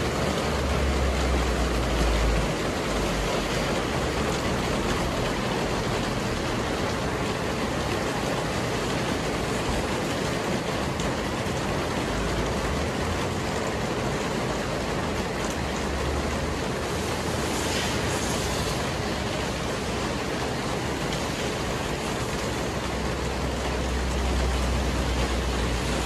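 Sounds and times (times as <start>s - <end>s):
heavy rain on wet paving: 0.0s - 26.0s.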